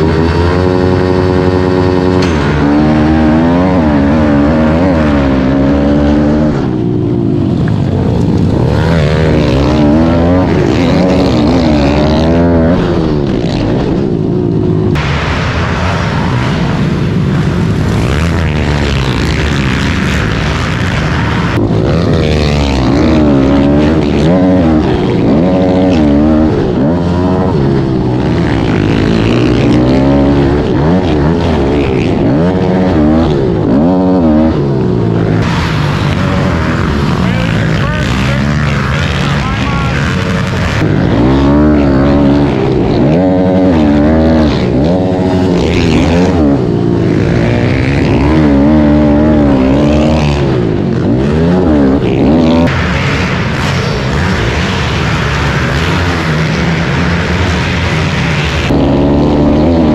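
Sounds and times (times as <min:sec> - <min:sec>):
pit bike engines revving: 0:00.0 - 0:59.9.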